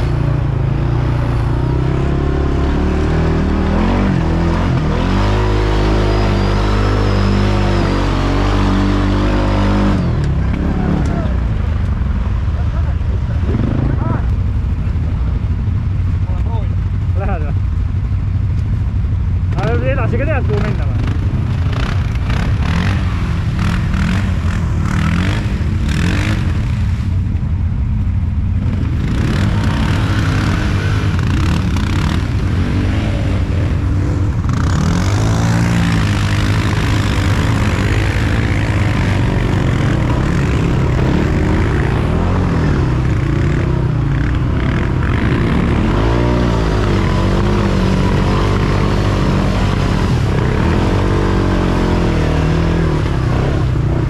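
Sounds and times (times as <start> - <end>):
atv engine running and revving: 0.0 - 54.0.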